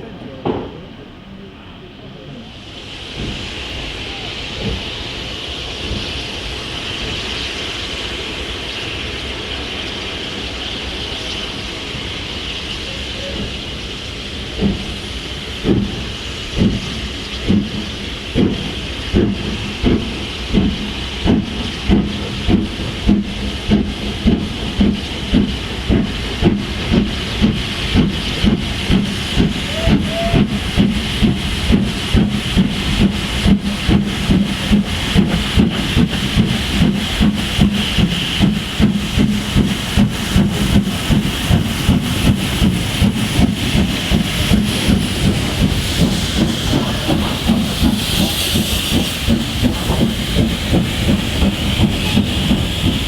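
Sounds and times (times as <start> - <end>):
steam hissing: 0.0 - 53.0
locomotive exhaust chuffs: 2.5 - 53.0.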